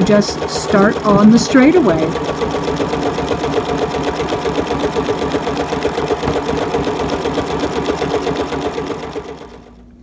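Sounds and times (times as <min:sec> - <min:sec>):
sewing machine clattering: 0:00.0 - 0:09.8.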